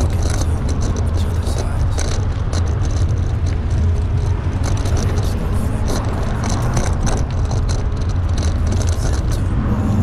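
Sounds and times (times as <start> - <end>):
road traffic passing: 0.0 - 10.0
wind rumbling on microphone: 0.0 - 10.0.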